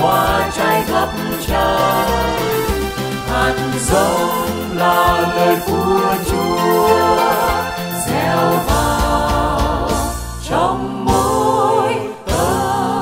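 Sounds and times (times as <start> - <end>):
hymn singing with vibrato: 0.0 - 13.0
instrumental accompaniment: 0.0 - 13.0.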